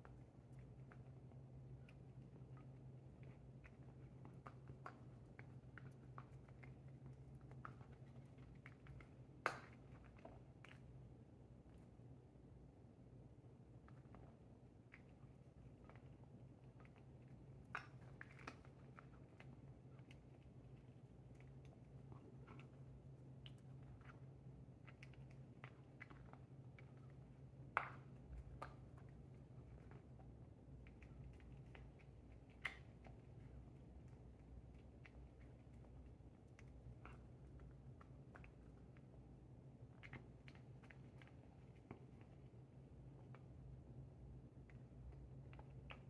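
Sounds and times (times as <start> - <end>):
cat chewing and licking: 0.0 - 46.0
low steady hum: 0.0 - 46.0.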